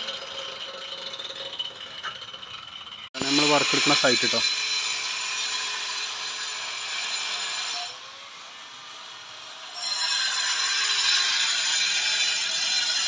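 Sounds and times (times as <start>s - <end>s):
power tool running: 0.0s - 13.0s.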